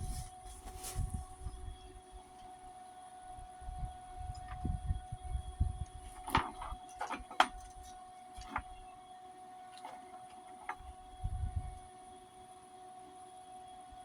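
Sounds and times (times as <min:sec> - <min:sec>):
steady hum: 0:00.0 - 0:09.1, 0:09.8 - 0:12.2.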